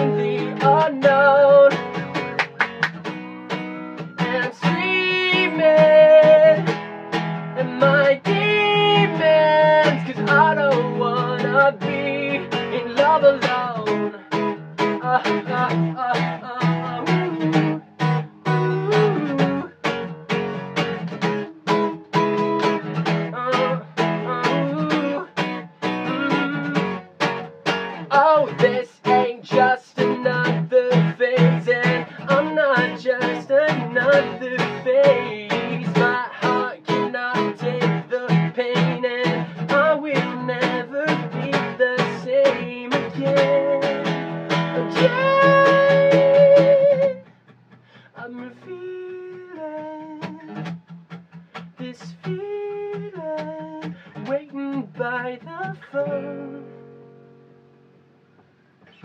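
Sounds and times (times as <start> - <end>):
man singing: 0.0 - 2.4, 4.0 - 20.0, 21.1 - 27.1, 27.7 - 47.3, 48.1 - 50.7, 51.8 - 56.8
acoustic guitar strumming: 0.0 - 59.0.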